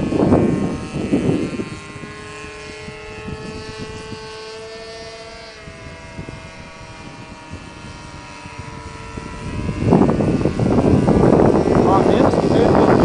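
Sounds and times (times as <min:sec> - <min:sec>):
model airplane motor buzzing: 0:00.0 - 0:13.0
wind rumble on microphone: 0:00.0 - 0:13.0.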